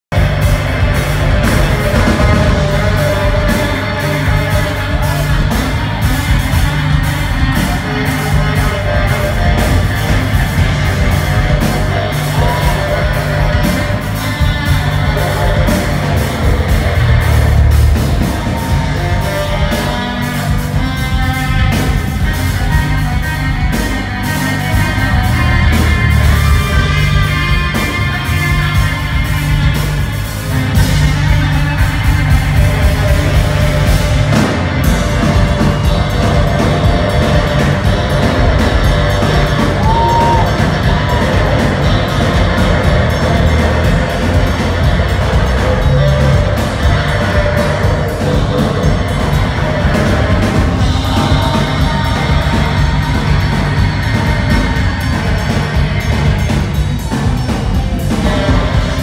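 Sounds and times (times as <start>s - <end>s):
live funk-rock band: 0.1s - 59.0s
baritone saxophone solo: 0.2s - 55.1s.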